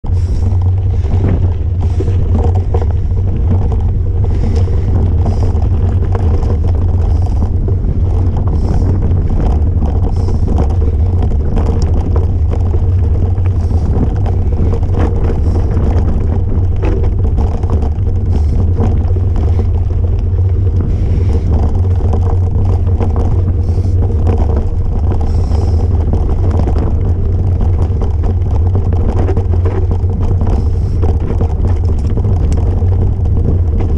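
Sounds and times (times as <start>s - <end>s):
bike knocking and rattling: 0.0s - 33.9s
bike trail vibration rumble: 0.0s - 33.9s
wind on microphone: 0.0s - 33.9s.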